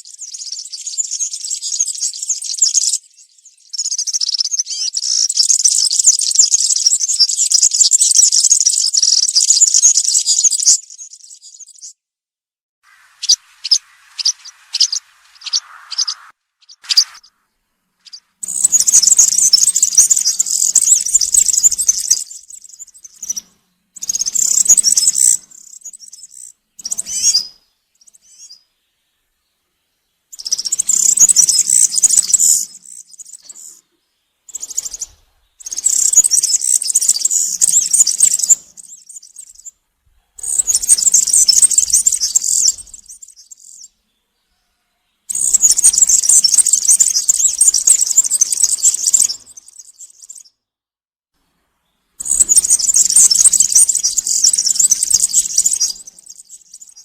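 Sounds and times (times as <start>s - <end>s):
bird singing buzzy song: 0.0s - 12.0s, 12.8s - 50.7s, 51.5s - 57.0s.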